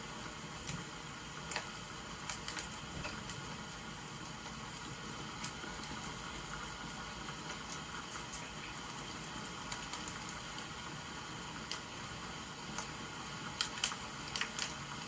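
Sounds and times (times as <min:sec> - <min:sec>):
rain hissing: 0:00.0 - 0:15.0
wood fire crackling: 0:00.0 - 0:15.0.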